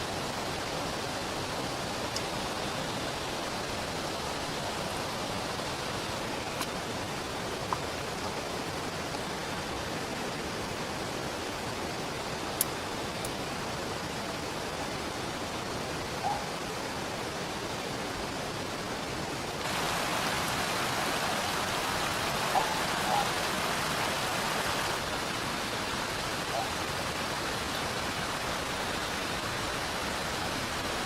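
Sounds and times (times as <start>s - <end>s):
flowing river water: 0.0s - 31.0s
rain: 0.0s - 31.0s.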